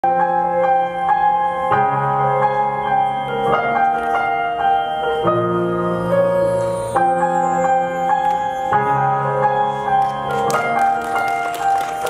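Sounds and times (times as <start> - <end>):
instrumental piano music: 0.0 - 12.0.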